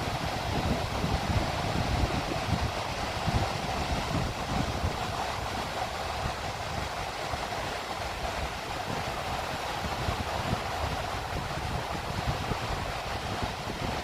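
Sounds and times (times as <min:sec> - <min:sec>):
wind: 0:00.0 - 0:14.0.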